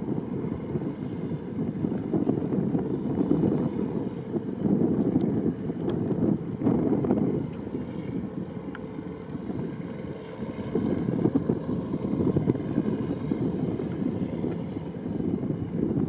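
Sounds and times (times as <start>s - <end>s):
boat engine and water rumble: 0.0s - 16.0s
wind buffeting microphone: 0.0s - 16.0s.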